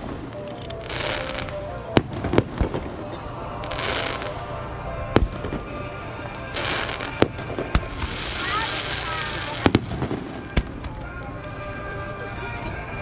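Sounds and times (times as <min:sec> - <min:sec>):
firework shells bursting: 0:00.0 - 0:11.9
fireworks crackling: 0:00.0 - 0:13.0.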